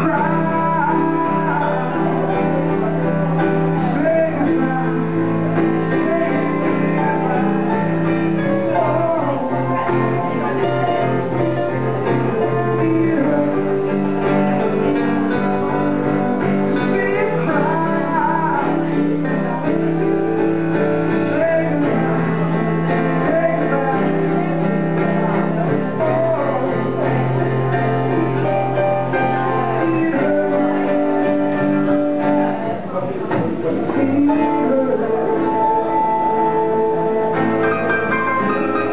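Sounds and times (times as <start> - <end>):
acoustic guitar: 0.0 - 38.9
digital piano chords: 0.0 - 38.9.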